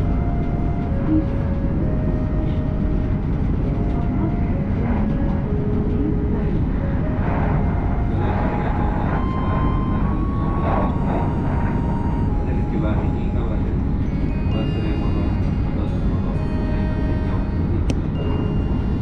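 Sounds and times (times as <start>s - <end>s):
faint whining tones: 0.0s - 19.0s
train deep rumble: 0.0s - 19.0s.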